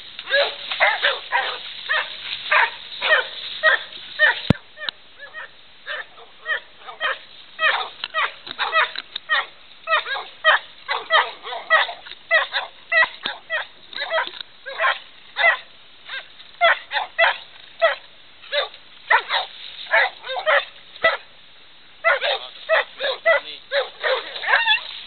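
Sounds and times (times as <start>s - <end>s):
dogs barking: 0.3s - 21.3s, 22.0s - 24.9s.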